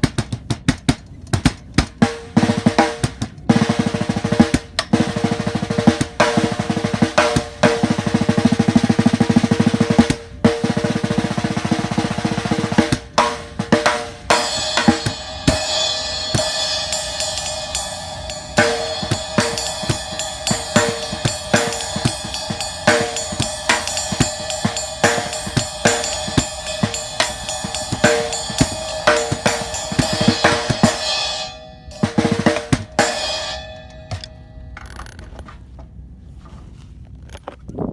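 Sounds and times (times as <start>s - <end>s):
drum groove: 0.0s - 34.4s
cymbal: 2.0s - 34.8s.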